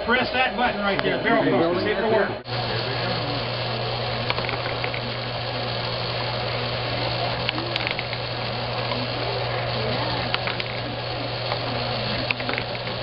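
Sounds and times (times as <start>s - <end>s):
vibrator mechanism buzzing: 0.0s - 13.0s.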